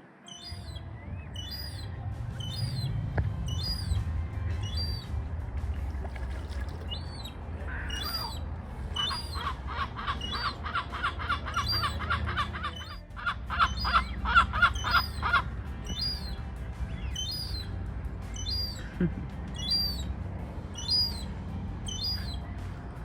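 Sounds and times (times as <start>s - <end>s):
seagull calling: 0.2s - 5.2s, 5.8s - 17.7s, 18.3s - 20.1s, 20.8s - 22.5s
thin high chirps: 0.2s - 20.1s, 20.8s - 22.5s.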